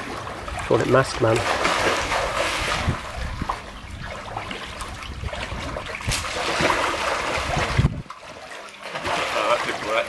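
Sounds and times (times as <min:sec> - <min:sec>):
pool water splashing: 0:00.0 - 0:10.0.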